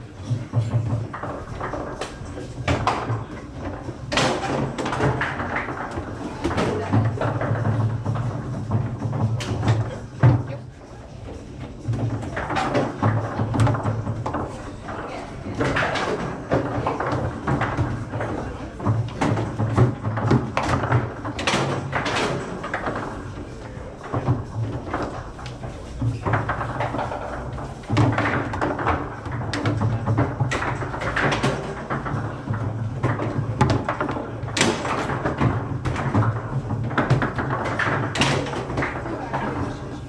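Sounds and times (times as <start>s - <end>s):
foosball ball clacks and bangs: 0.0s - 40.0s.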